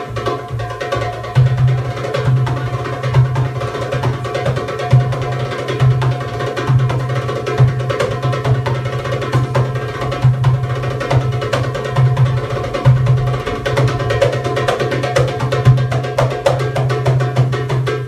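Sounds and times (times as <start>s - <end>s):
hand drums: 0.0s - 18.0s.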